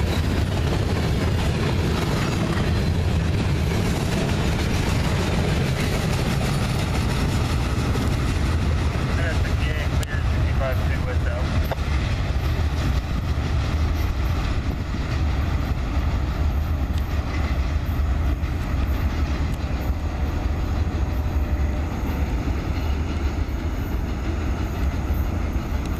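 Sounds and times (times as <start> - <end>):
freight train rolling on rails: 0.0 - 25.9.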